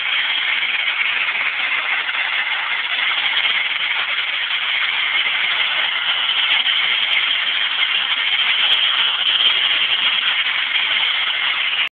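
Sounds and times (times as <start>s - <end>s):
compressed air blasting hiss: 0.0s - 11.9s.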